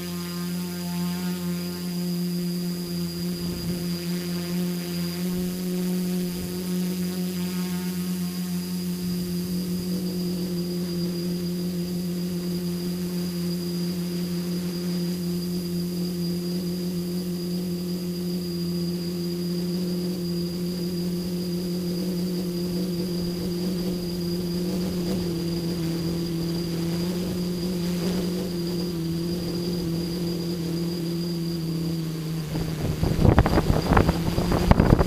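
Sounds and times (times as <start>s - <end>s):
drone motors humming: 0.0s - 35.0s
propeller high whine: 0.0s - 35.0s.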